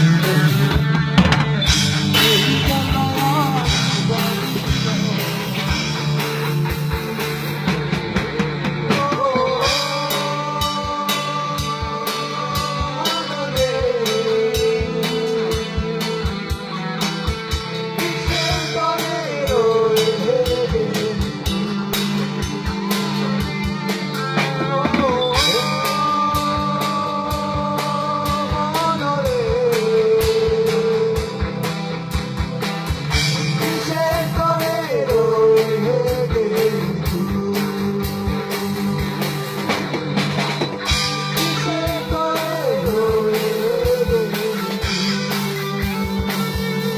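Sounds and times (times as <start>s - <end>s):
drum kit beat: 0.0s - 46.9s
guitar with bending notes: 0.0s - 46.9s.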